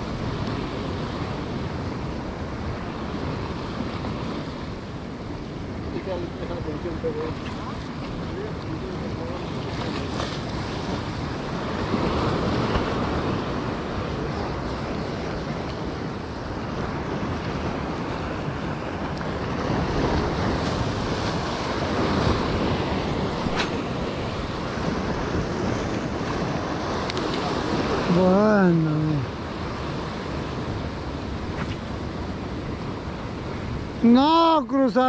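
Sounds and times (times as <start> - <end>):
sea surf breaking: 0.0 - 35.0
wind buffeting microphone: 0.0 - 35.0.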